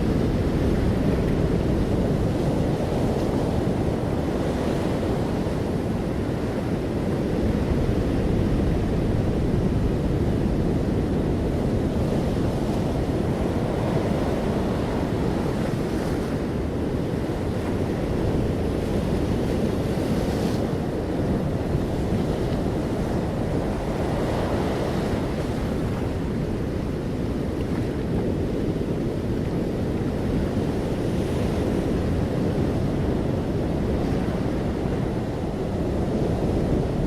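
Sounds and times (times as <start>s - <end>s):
wind and sea rushing: 0.0s - 37.0s
wind rumbling on microphone: 0.0s - 37.0s.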